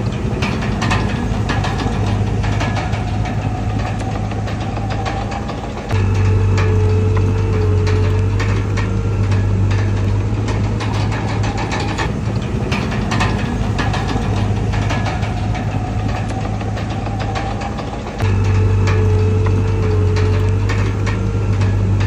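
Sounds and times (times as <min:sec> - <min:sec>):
bulldozer diesel engine running: 0:00.0 - 0:22.0
metallic clicks and clanks: 0:00.0 - 0:22.0.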